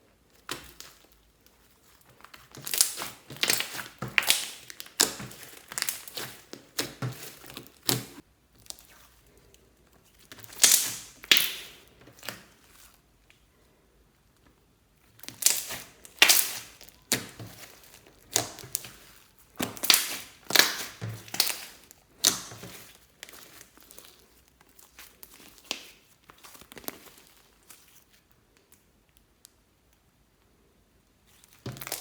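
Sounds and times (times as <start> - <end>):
slime squished by hand crackling: 0.3 - 9.2, 10.1 - 13.0, 15.0 - 28.8, 31.3 - 32.0.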